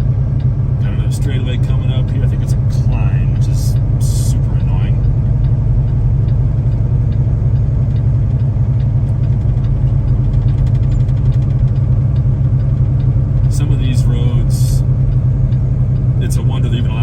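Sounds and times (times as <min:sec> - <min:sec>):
diesel truck engine droning: 0:00.0 - 0:17.0.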